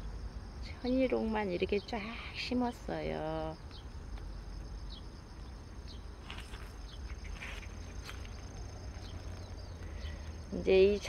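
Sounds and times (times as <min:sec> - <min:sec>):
insect trill: 0:00.0 - 0:11.0.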